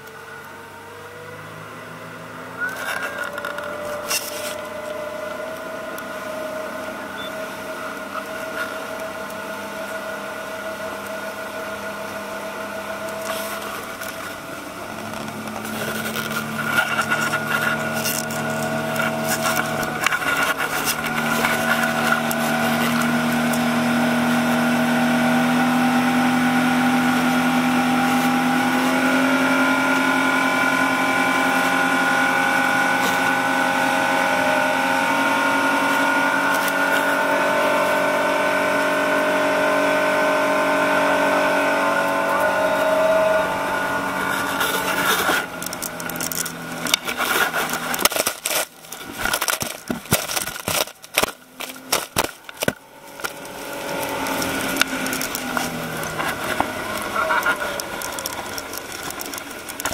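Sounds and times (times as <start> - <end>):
outboard motor running: 0.0 - 59.9
water and hull noise: 0.0 - 59.9.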